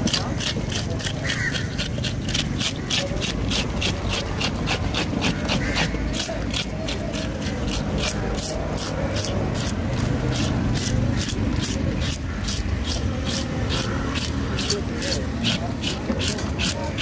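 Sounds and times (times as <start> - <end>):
fish scaler scraping scales: 0.0 - 17.0.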